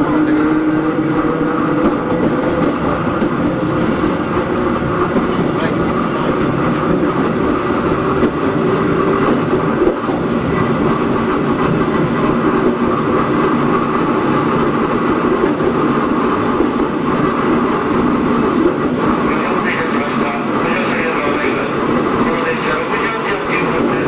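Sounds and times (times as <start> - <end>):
wheels clickety-clack on rails: 0.0 - 24.0.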